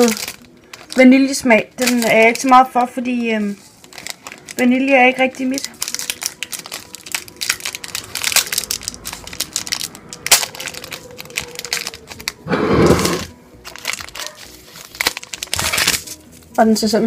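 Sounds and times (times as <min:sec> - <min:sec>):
plastic wrapper crinkling: 0:00.0 - 0:12.5, 0:13.2 - 0:16.6
wrapper rustle: 0:00.0 - 0:16.7.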